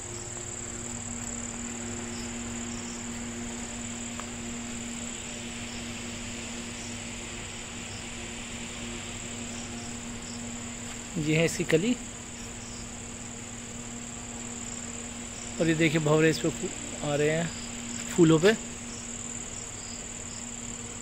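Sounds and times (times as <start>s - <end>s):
crickets trilling: 0.0s - 21.0s
low steady drone: 0.0s - 21.0s.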